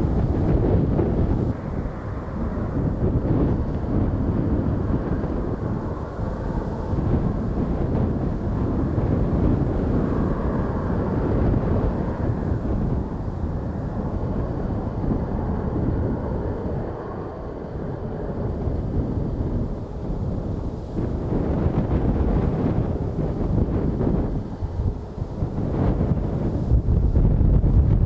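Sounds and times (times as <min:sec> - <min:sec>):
jet engine noise: 0:00.0 - 0:28.0
wind gusting on microphone: 0:00.0 - 0:28.0.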